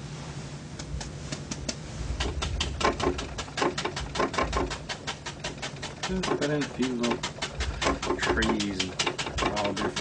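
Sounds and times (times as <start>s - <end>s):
paintbrush tapping on canvas: 1.3s - 10.0s.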